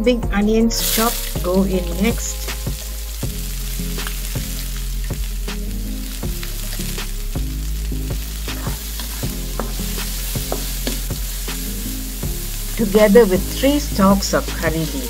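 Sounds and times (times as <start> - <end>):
onions sizzling in oil: 0.8 - 15.0
spatula scraping and knocking wok: 0.8 - 15.0.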